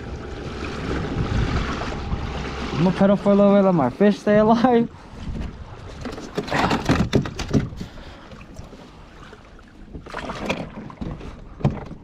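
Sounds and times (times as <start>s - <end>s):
water washing along kayak hull: 0.0s - 12.0s.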